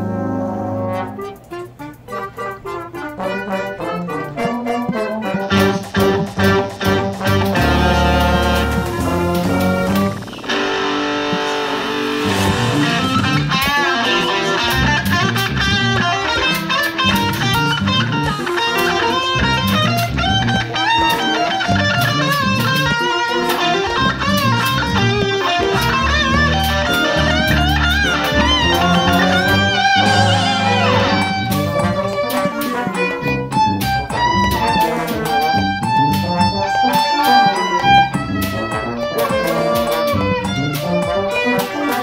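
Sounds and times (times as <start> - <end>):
electric guitar playing quick notes: 0.0 - 42.0
lower instrumental parts: 0.0 - 42.0.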